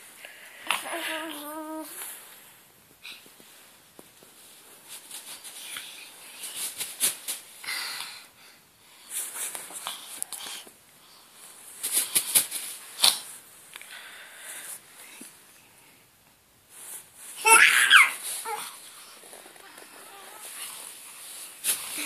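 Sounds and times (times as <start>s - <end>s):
bedding and clothes rustling: 0.0s - 22.0s.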